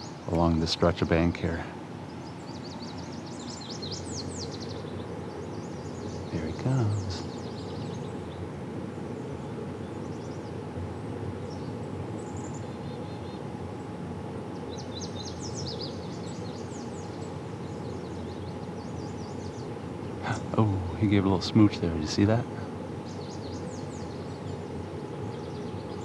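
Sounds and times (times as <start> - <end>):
outdoor background noise: 0.0 - 26.0
small birds chirping: 0.0 - 26.0.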